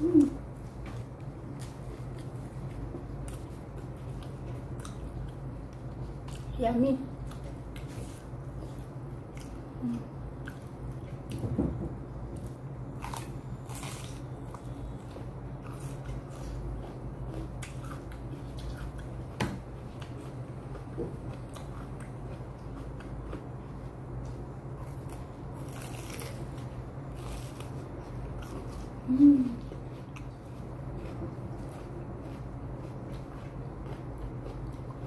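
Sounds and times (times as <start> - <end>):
wet chewing: 0.2 - 11.4, 12.4 - 35.0.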